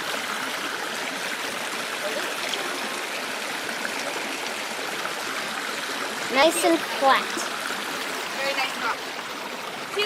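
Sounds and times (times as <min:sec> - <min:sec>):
creek rushing over rocks: 0:00.0 - 0:10.0.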